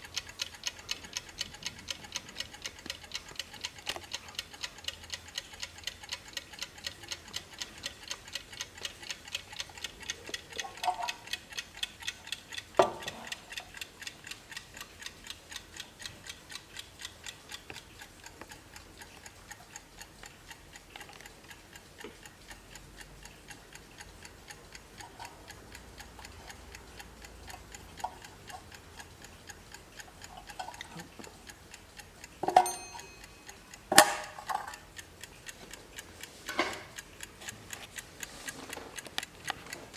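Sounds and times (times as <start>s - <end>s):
clockwork ticking: 0.0s - 39.9s.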